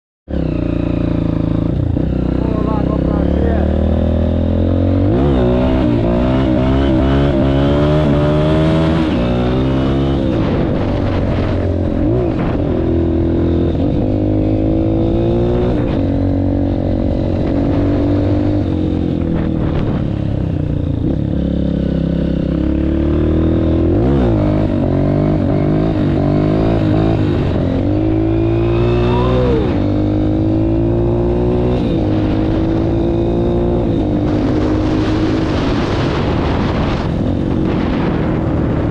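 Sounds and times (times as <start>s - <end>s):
dirt bike engine revving: 0.3s - 20.0s, 21.0s - 37.0s.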